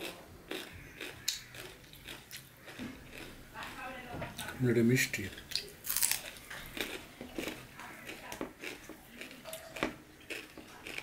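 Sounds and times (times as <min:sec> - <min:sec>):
person chewing crisp radish: 0:00.0 - 0:03.6, 0:05.0 - 0:11.0.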